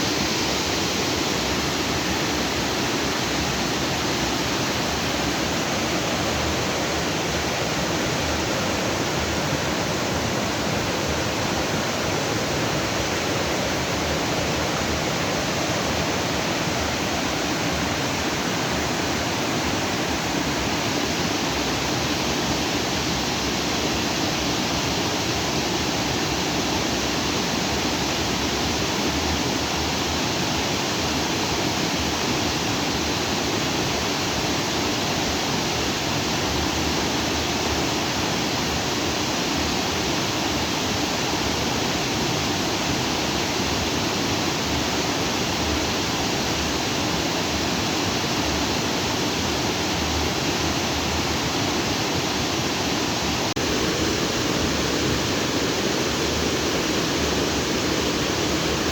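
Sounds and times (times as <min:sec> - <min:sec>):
stream water rushing over rocks: 0:00.0 - 0:58.9.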